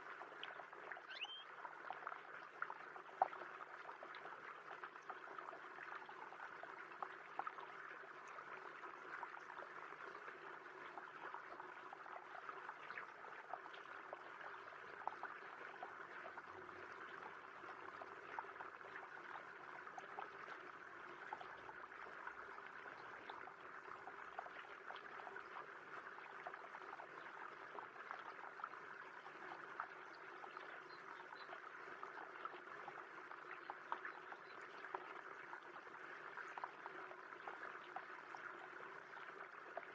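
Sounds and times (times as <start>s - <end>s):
drip ticks: 0.1s - 10.0s, 10.8s - 39.9s.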